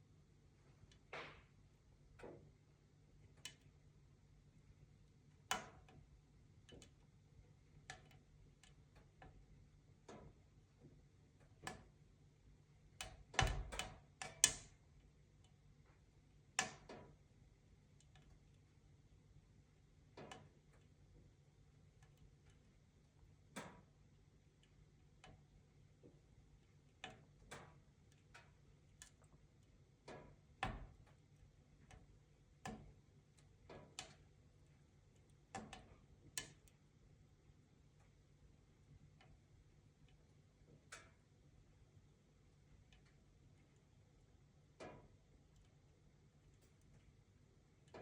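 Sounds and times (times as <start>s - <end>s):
wood fire crackling: 0.6s - 48.0s.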